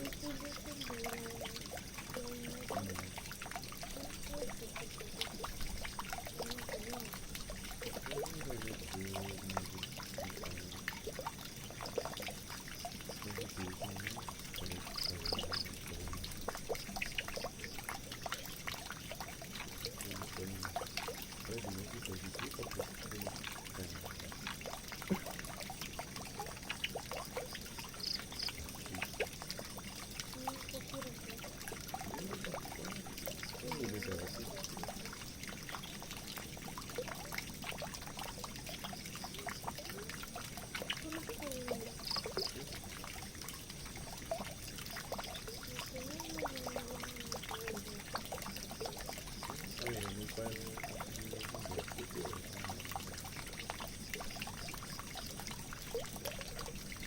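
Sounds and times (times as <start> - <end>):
water pouring down a drain: 0.0 - 57.0.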